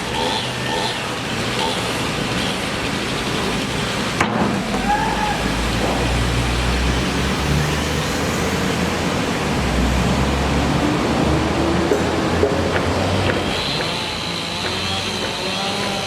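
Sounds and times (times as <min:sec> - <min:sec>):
road traffic noise: 0:00.0 - 0:16.0
vehicles passing: 0:00.0 - 0:16.0.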